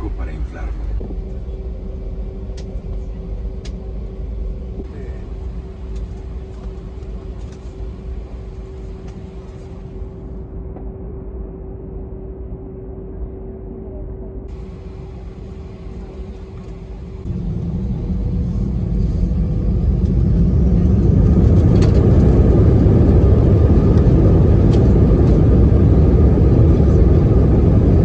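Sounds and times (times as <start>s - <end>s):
aircraft cabin rumble and drone: 0.0s - 28.0s.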